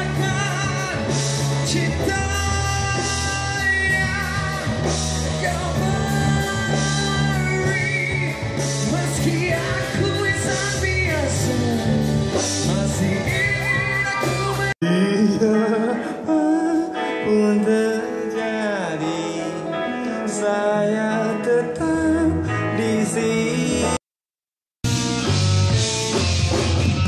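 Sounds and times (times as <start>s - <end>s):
live band with guitars: 0.0s - 24.0s, 24.8s - 27.0s
person singing: 0.0s - 24.0s.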